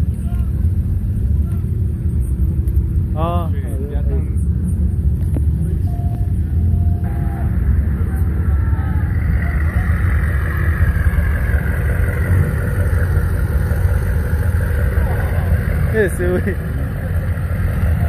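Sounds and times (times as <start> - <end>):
car engines rumbling: 0.0 - 18.0
car rolling close by: 0.8 - 18.0.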